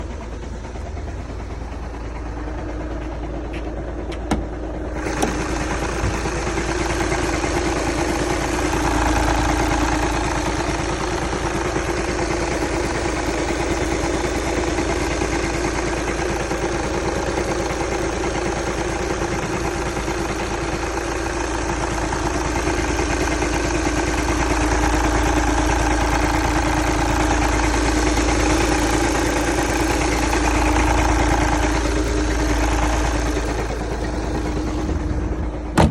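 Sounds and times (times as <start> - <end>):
diesel engine knocking: 0.0 - 35.9.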